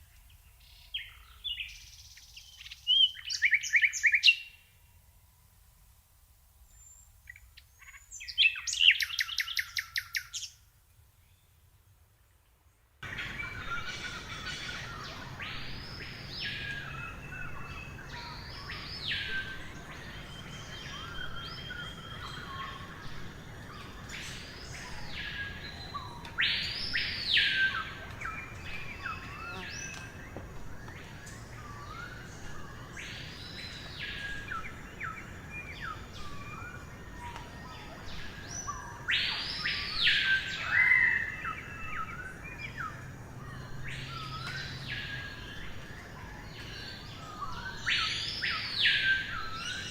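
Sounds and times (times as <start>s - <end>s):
soft bird chirps: 6.7s - 10.5s, 13.0s - 49.9s.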